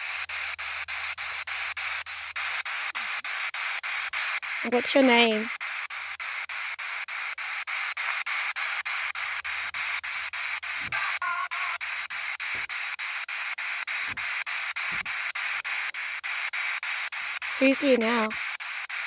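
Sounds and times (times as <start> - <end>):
chopped radio static: 0.0 - 19.0.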